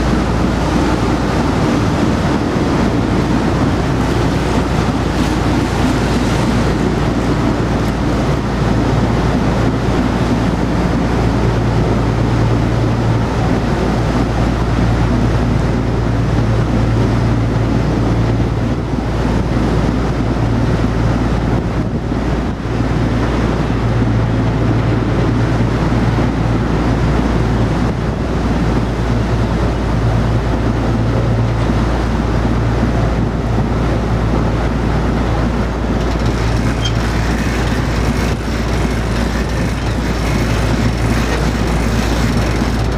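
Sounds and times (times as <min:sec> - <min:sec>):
churning propeller wash: 0:00.0 - 0:42.9
diesel engine droning: 0:00.0 - 0:42.9
wind buffeting microphone: 0:00.0 - 0:42.9.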